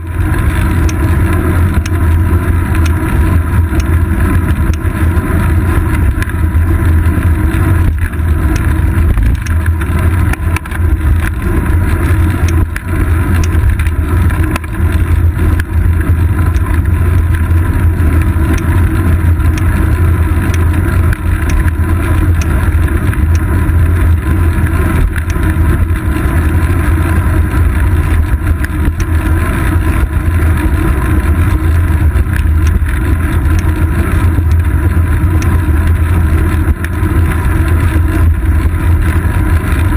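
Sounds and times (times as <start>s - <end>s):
road vibration rumble: 0.0s - 39.9s.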